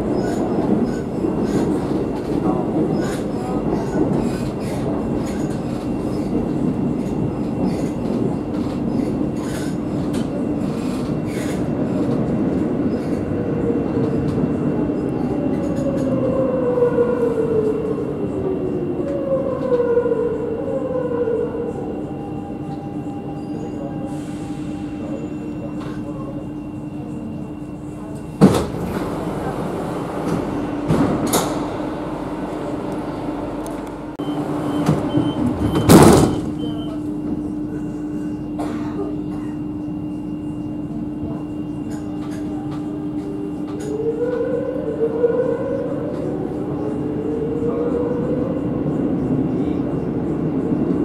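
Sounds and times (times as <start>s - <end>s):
train brakes whining: 0.0s - 50.2s
train wheels rumbling in tunnel: 0.0s - 51.0s.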